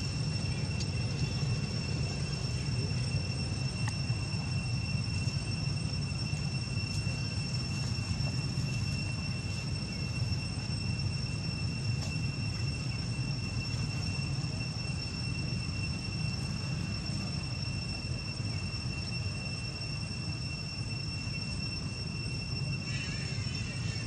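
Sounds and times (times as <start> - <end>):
high-pitched whining tones: 0.0 - 24.0.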